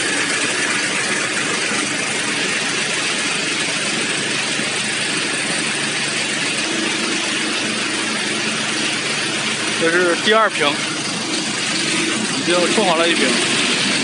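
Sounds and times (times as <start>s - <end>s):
harvester engine idling: 0.0s - 14.0s.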